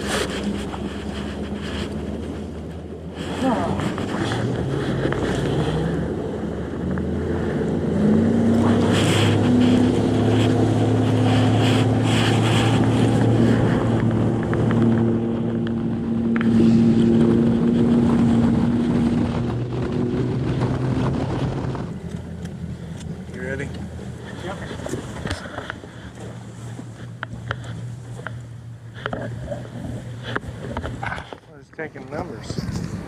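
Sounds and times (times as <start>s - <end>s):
wind rushing over microphone: 0.0s - 26.2s, 29.4s - 33.0s
outboard motor running: 0.0s - 33.0s.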